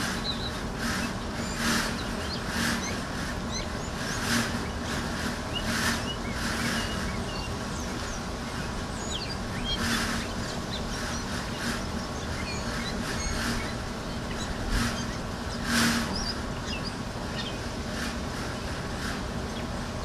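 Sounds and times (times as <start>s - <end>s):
small birds chirping and twittering: 0.0s - 20.0s.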